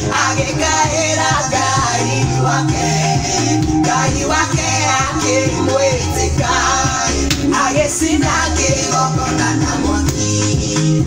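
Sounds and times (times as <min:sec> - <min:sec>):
person singing: 0:00.0 - 0:11.0
song with instruments: 0:00.0 - 0:11.0
steady bass beat: 0:00.0 - 0:11.0.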